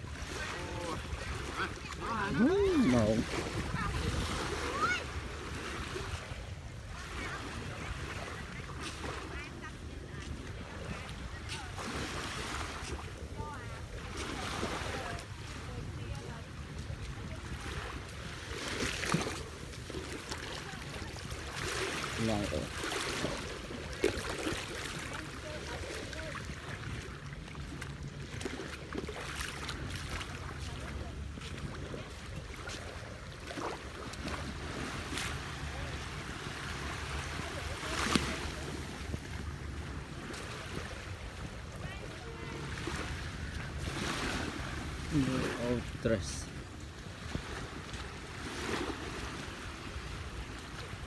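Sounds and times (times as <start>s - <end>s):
small waves lapping on shore: 0.0s - 51.0s
wind rumbling on microphone: 0.0s - 51.0s.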